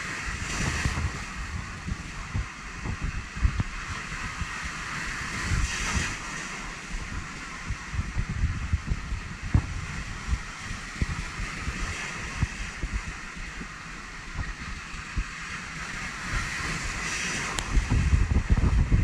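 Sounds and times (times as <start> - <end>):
sea surf washing on shore: 0.0 - 19.0
wind buffeting microphone: 0.0 - 19.0.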